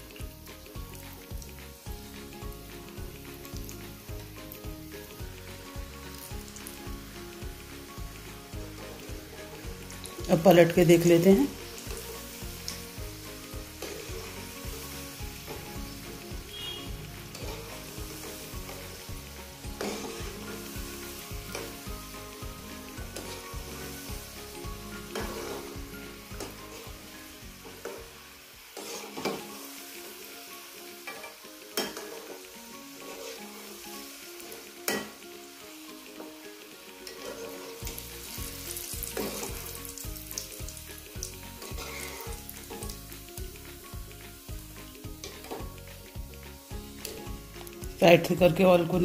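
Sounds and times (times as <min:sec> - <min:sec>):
background music with beat: 0:00.0 - 0:28.2, 0:29.0 - 0:49.0
hot oil sizzling: 0:00.0 - 0:49.0.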